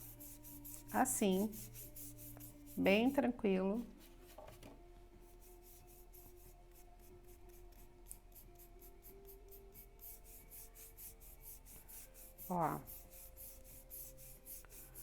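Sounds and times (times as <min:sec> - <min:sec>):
paintbrush rubbing: 0:00.0 - 0:04.6, 0:05.2 - 0:15.0.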